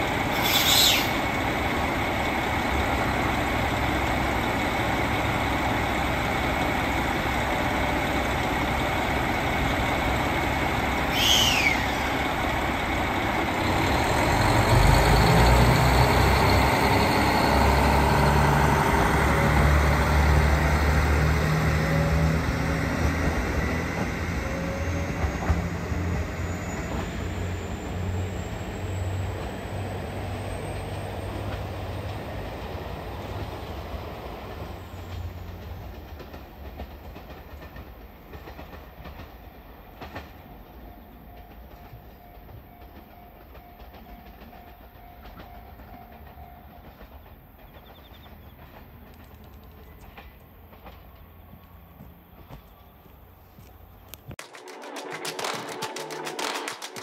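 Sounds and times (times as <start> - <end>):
diesel train engine drone: 0.0 - 57.0.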